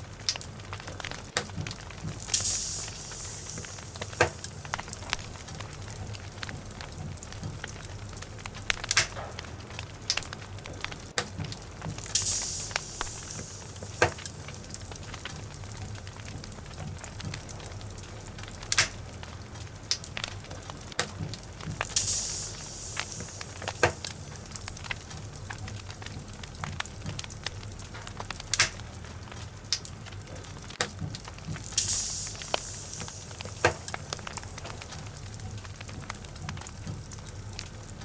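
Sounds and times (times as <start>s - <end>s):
fire crackling and popping: 0.0s - 38.0s
low rumble of flames: 0.0s - 38.0s
fire hissing burst: 0.8s - 19.1s, 21.4s - 28.9s, 31.1s - 37.6s.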